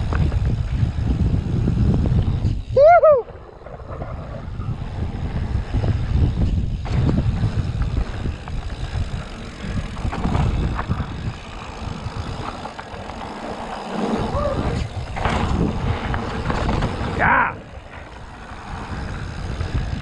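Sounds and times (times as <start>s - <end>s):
bike knocks and rattles: 0.0s - 2.8s, 3.5s - 20.0s
wind on microphone: 0.0s - 20.0s.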